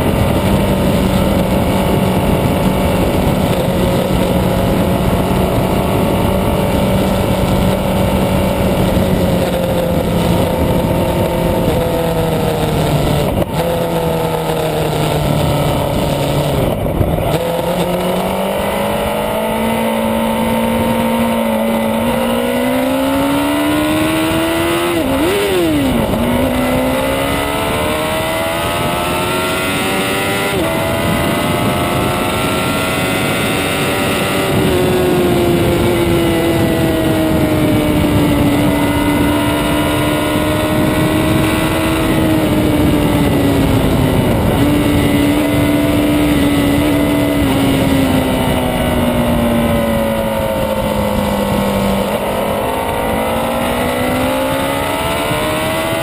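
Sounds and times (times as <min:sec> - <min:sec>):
motorcycle engine pulling hard: 0:00.0 - 0:56.0
wind rushing: 0:00.0 - 0:56.0.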